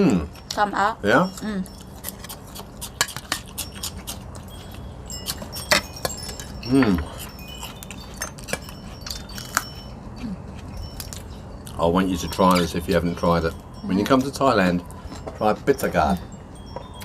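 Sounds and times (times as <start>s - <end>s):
high tinkling tones: 0.0s - 17.0s
shells and utensils clinking on plates: 0.0s - 17.0s.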